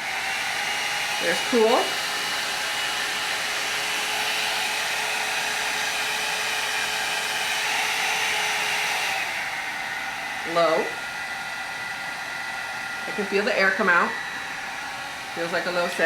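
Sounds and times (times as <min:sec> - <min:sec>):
hair dryer blowing air: 0:00.0 - 0:16.0.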